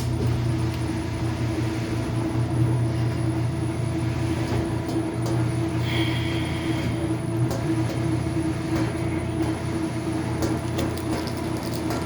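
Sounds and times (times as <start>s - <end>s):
washing machine humming: 0.0s - 12.0s.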